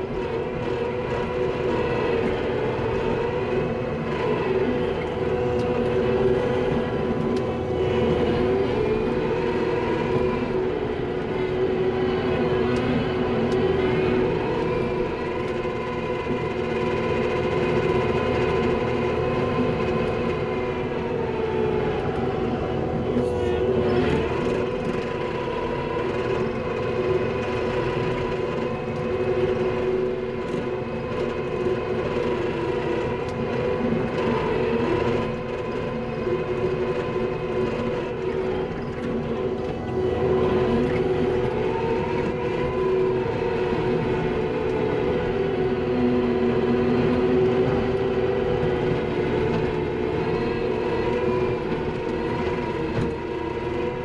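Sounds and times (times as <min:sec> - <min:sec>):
skid steer engine drone: 0:00.0 - 0:54.0.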